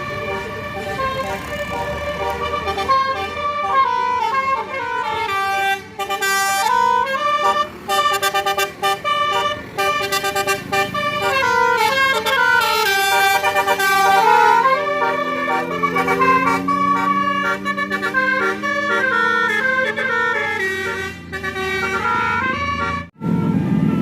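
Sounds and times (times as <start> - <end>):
bus horn playing a melody: 0.0 - 24.0.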